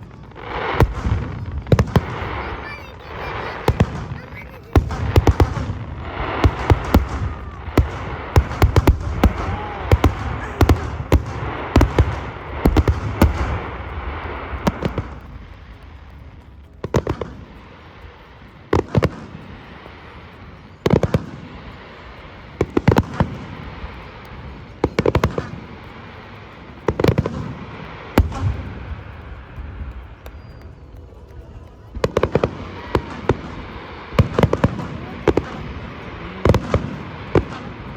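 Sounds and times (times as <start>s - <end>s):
fireworks booms: 0.0s - 37.9s.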